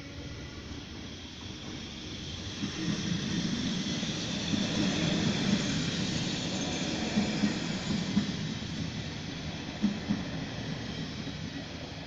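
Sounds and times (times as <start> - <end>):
train rumbling over tracks: 0.0 - 12.0.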